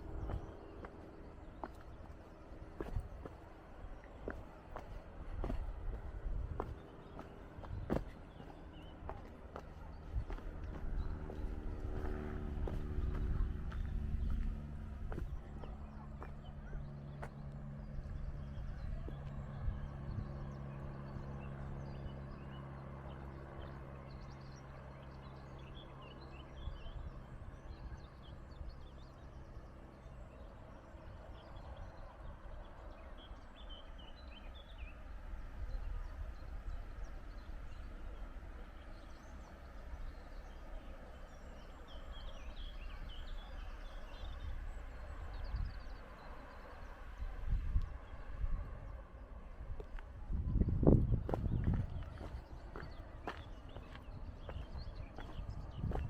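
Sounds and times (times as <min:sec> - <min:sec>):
low steady hum: 0:00.0 - 0:56.0
low wind rumble: 0:00.0 - 0:56.0
small birds chirping: 0:00.0 - 0:56.0.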